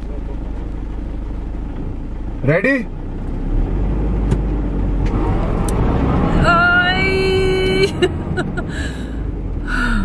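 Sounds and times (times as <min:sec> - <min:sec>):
car engine running hard: 0:00.0 - 0:10.0.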